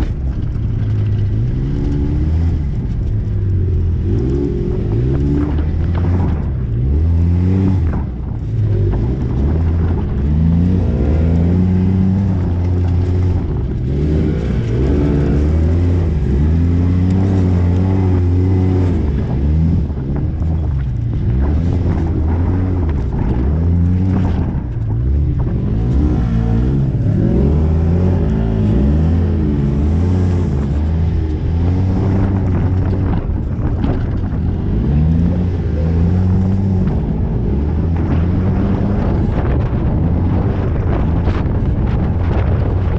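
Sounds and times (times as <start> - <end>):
engine revving: 0.0 - 42.9.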